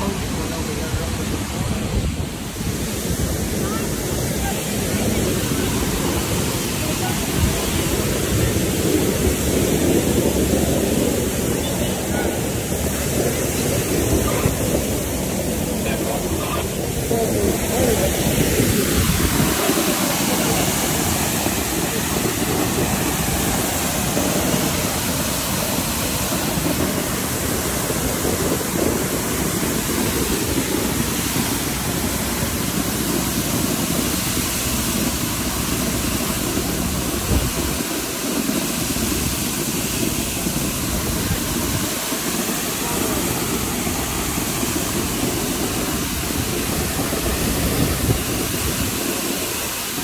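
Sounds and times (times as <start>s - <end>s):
water gushing and splashing: 0.0s - 50.0s.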